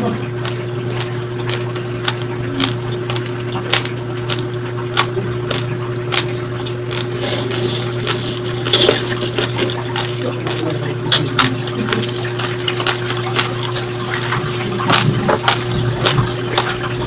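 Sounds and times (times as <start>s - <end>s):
rice grains crunching between teeth: 0.4s - 17.0s.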